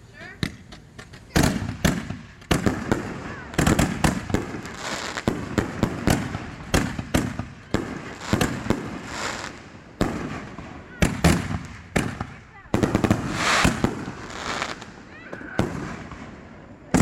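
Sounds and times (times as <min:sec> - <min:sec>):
firework crackle: 0:00.0 - 0:17.0
firework booms: 0:01.3 - 0:17.0.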